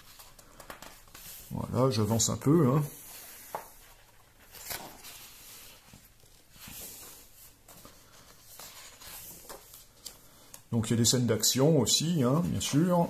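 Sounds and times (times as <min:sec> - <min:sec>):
paper pages turning: 0:00.0 - 0:10.7.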